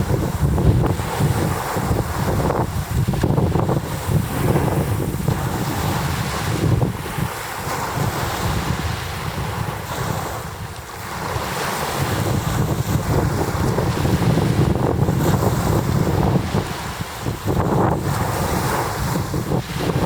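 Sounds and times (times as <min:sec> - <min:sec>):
waves crashing on shore: 0:00.0 - 0:20.0
wind buffeting microphone: 0:00.0 - 0:20.0.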